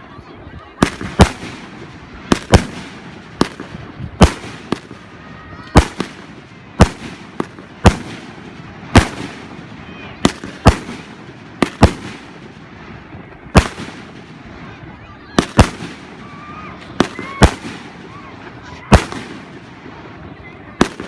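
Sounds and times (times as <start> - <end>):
fireworks banging: 0.6 - 21.0.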